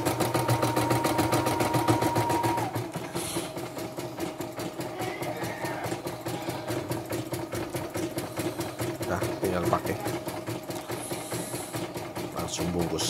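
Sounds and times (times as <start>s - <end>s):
embroidery machine stitching: 0.0s - 13.0s.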